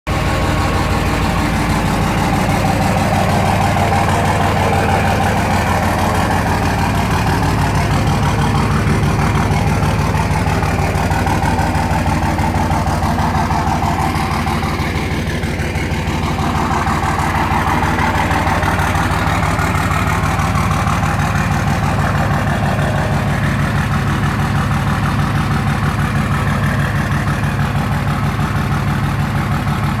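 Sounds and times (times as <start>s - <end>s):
diesel truck engine idling: 0.1s - 30.0s.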